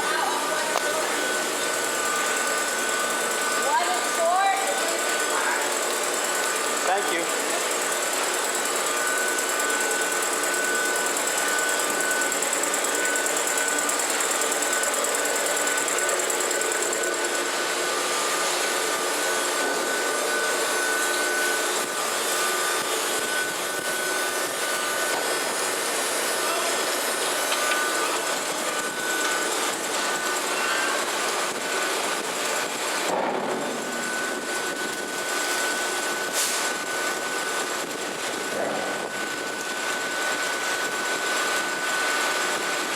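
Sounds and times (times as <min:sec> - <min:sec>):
high mechanical whine: 0:00.0 - 0:42.9
mill machinery running: 0:00.0 - 0:42.9.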